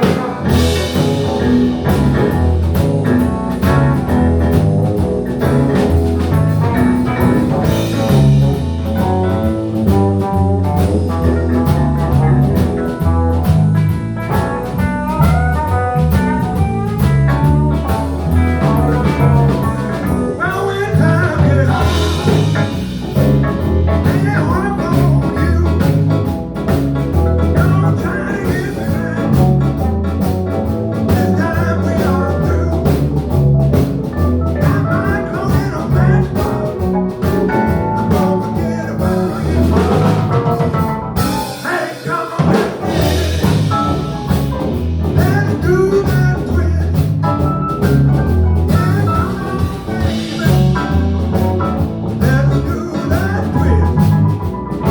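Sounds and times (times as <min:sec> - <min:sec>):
bass: 0:00.0 - 0:54.9
drum kit beat: 0:00.0 - 0:54.9
guitar: 0:00.0 - 0:54.9.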